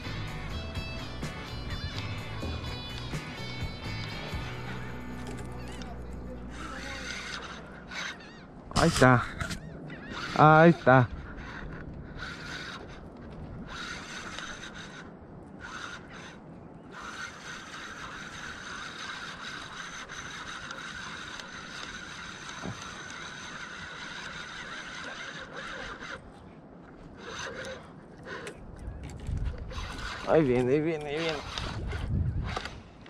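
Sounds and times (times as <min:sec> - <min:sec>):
fishing reel gears whirring: 0:00.0 - 0:13.0, 0:13.6 - 0:26.2, 0:27.1 - 0:28.5, 0:29.1 - 0:33.0.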